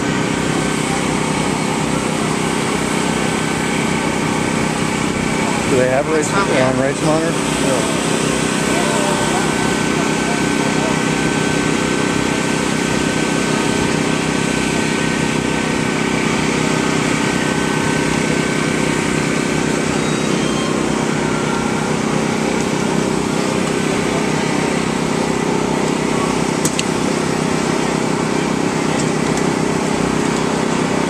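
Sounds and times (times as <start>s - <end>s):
engine droning steadily: 0.0s - 31.0s.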